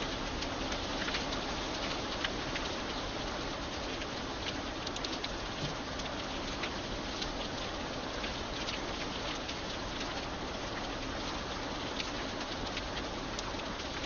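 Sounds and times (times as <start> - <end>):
raindrops ticking: 0.0 - 14.0
steady rain hiss: 0.0 - 14.0.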